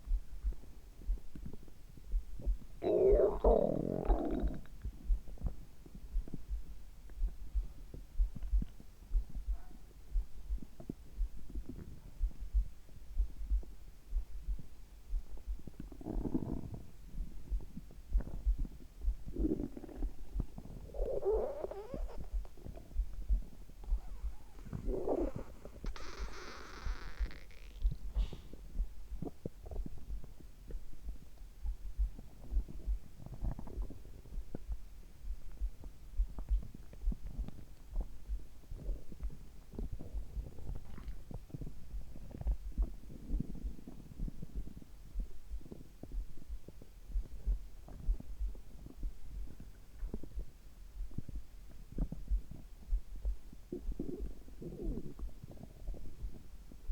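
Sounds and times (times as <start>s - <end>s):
heartbeat thumps: 0.0s - 56.9s
stomach gurgles: 0.0s - 56.9s.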